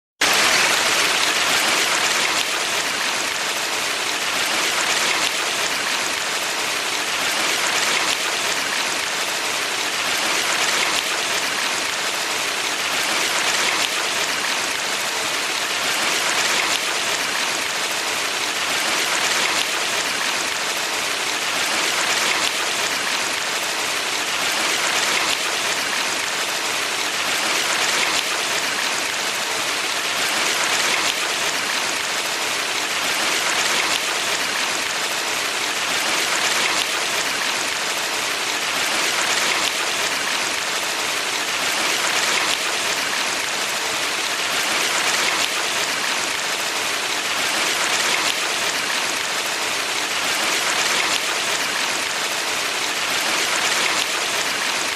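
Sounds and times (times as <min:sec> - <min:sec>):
stream water rushing: 0:00.2 - 0:54.9.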